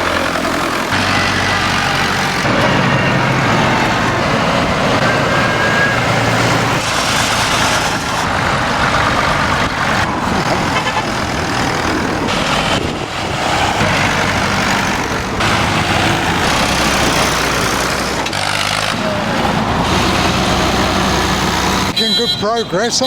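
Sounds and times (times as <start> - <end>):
loud rushing noise: 0.0 - 22.0
tractor engine running: 0.0 - 23.0.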